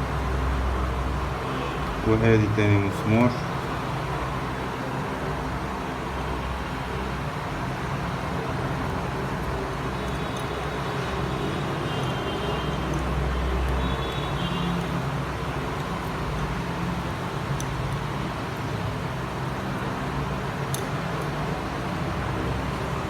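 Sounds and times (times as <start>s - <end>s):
steady background rumble and hiss: 0.0s - 23.0s.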